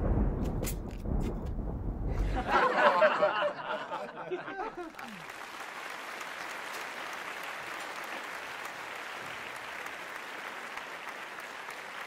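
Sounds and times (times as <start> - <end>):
applause: 2.2 - 12.0.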